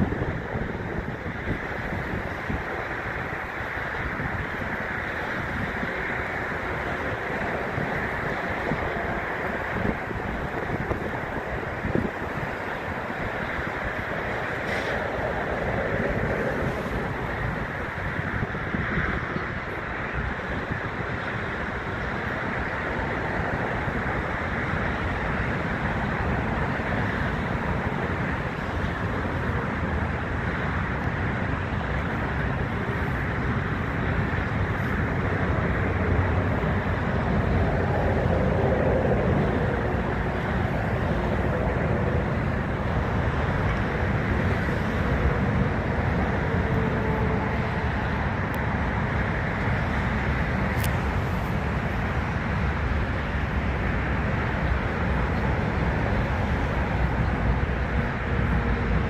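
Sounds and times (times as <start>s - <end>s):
distant jet engines rumbling: 0.0s - 59.0s
wind on microphone: 0.0s - 59.0s.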